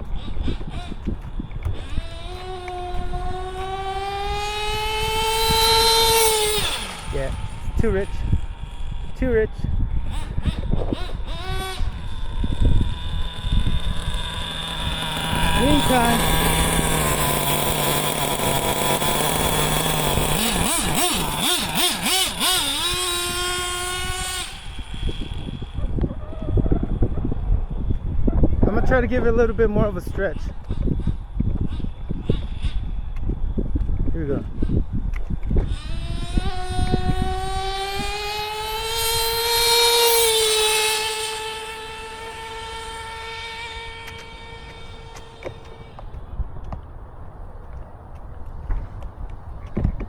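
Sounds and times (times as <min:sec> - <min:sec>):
small nitro engine revving: 0:00.0 - 0:46.3.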